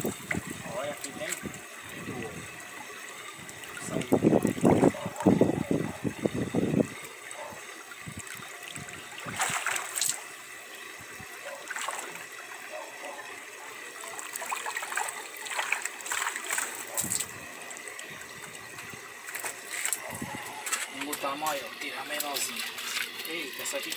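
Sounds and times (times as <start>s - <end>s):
running water trickling: 0.0s - 23.9s
water splashing in a tank: 0.0s - 23.9s.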